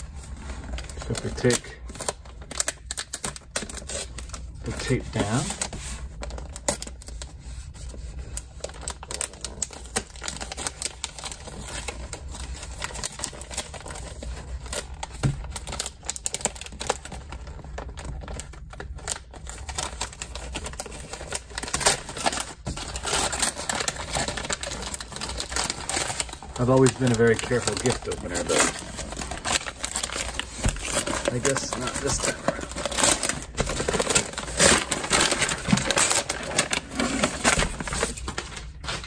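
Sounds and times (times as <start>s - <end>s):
wrapping paper crinkling and tearing: 0.0s - 39.0s.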